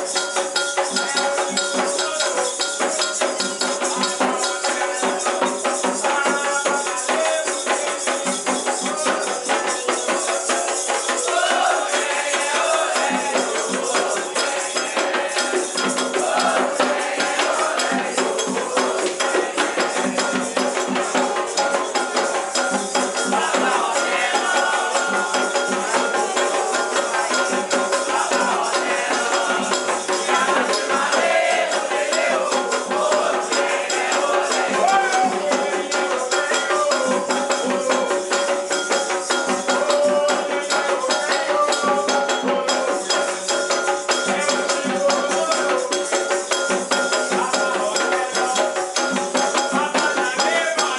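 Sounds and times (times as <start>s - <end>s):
rattles shaking in fast rhythm: 0.0s - 50.9s
voices singing: 0.0s - 50.9s.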